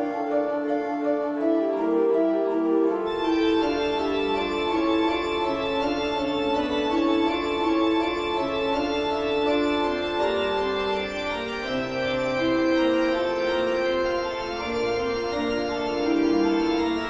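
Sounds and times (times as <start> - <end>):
eerie organ chords: 0.0 - 17.0.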